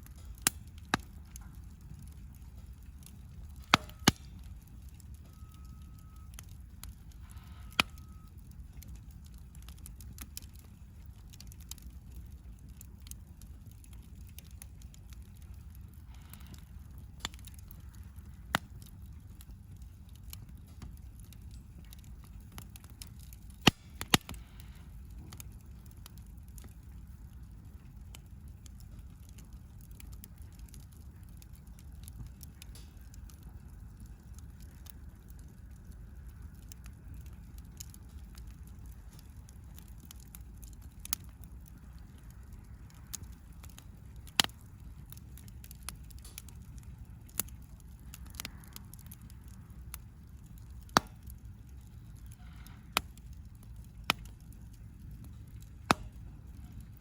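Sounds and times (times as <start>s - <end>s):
campfire crackling and popping: 0.0s - 57.0s
fire low rumble: 0.0s - 57.0s.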